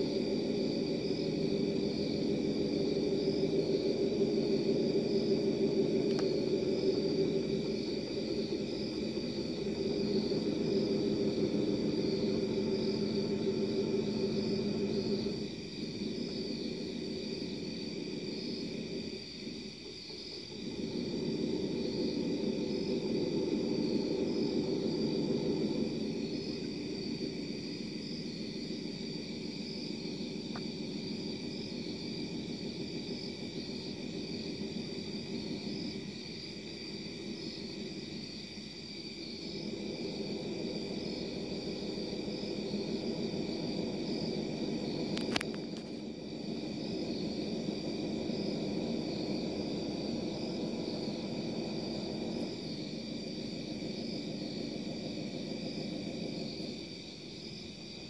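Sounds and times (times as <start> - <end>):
low droning hum: 0.0 - 38.6, 39.4 - 56.8
thin high whine: 0.0 - 56.9.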